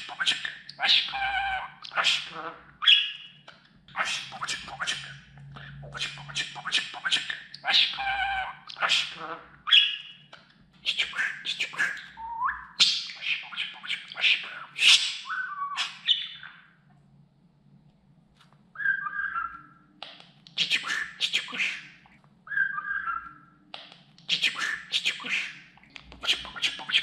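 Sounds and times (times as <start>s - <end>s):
budgerigar chattering and warbling: 0.0s - 10.2s, 10.8s - 16.7s, 20.6s - 23.4s, 24.3s - 27.0s.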